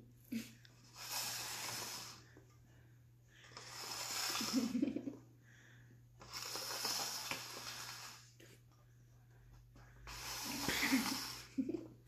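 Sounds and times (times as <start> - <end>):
person breathing: 0.3 - 11.5.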